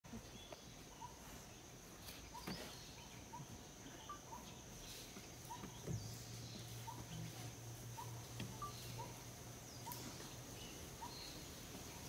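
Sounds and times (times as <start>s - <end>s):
short chirping calls: 0.4s - 1.4s, 2.0s - 12.0s.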